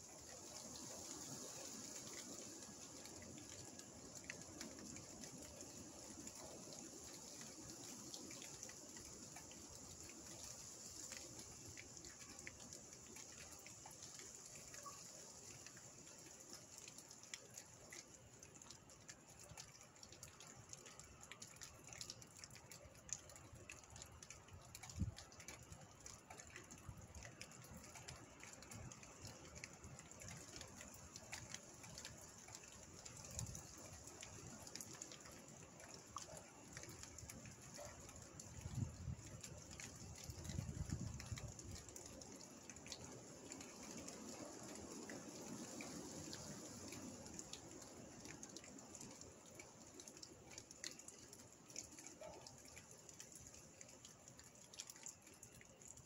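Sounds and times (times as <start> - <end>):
rain falling through leaves: 0.0 - 56.0.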